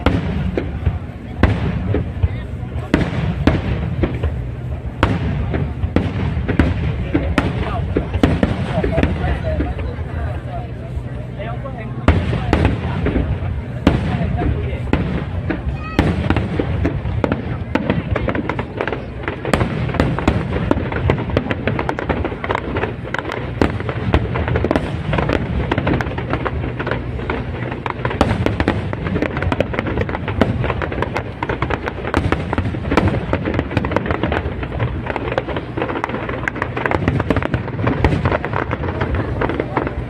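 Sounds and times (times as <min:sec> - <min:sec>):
deep rumble: 0:00.0 - 0:40.0
fireworks bangs and crackles: 0:00.0 - 0:40.0.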